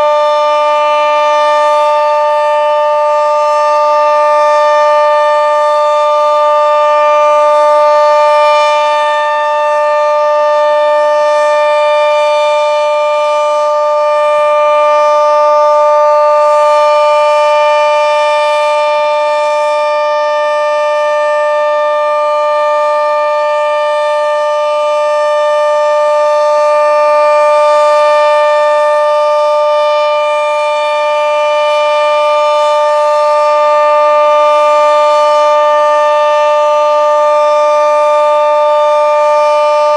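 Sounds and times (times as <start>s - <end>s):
two-tone warning siren: 0.0s - 39.9s.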